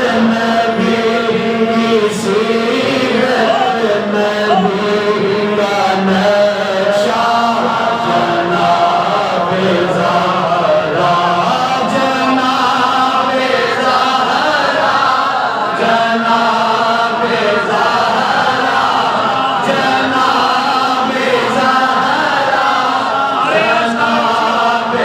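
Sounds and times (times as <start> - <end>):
man chanting devotional song: 0.0 - 25.0.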